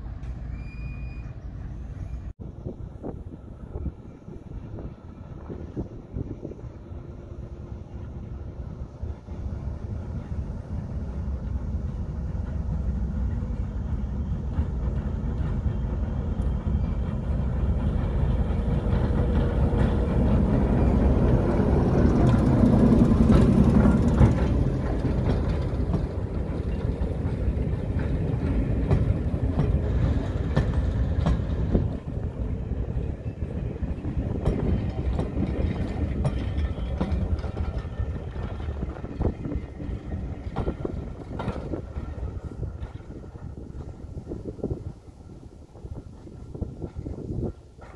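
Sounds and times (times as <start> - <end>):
diesel locomotive engine running: 1.2 - 47.9
train wheels clicking on track: 3.8 - 47.9.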